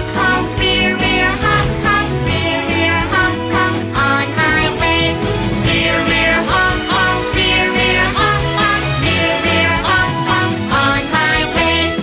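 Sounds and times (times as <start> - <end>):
person singing children's song: 0.0 - 12.0.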